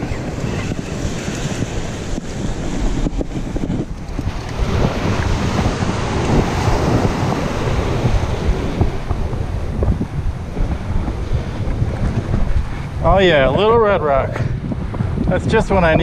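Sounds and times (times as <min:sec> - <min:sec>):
surf washing over rocks: 0:00.0 - 0:14.4
wind buffeting microphone: 0:00.0 - 0:16.0.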